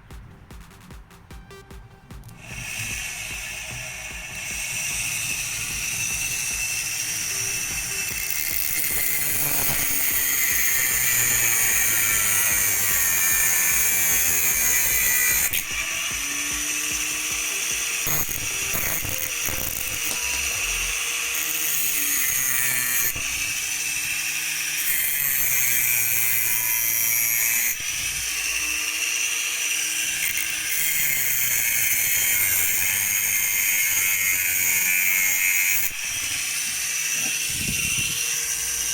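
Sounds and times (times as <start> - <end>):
mini grinder motor whining: 2.2 - 38.9.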